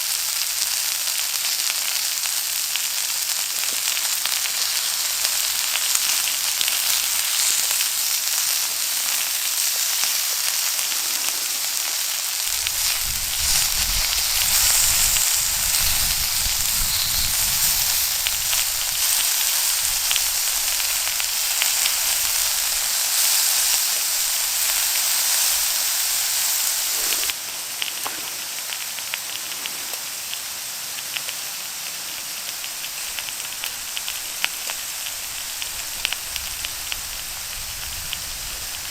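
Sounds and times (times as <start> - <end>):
meat sizzling over fire: 0.0 - 38.9.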